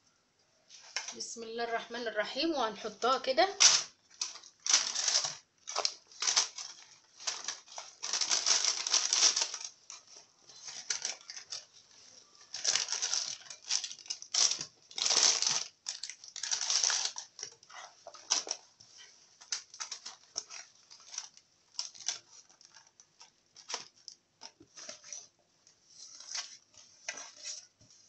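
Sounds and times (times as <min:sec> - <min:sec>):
paper and foil crinkling: 0:03.0 - 0:28.0.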